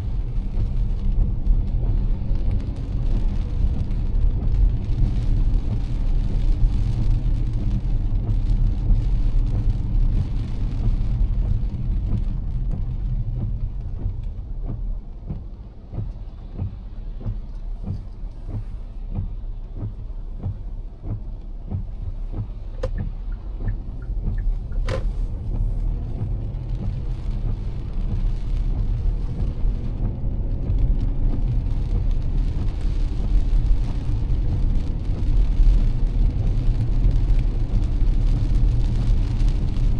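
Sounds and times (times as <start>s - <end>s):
rain falling on car: 0.0s - 39.9s
raindrop taps: 0.0s - 39.9s
road and engine rumble: 0.0s - 39.9s.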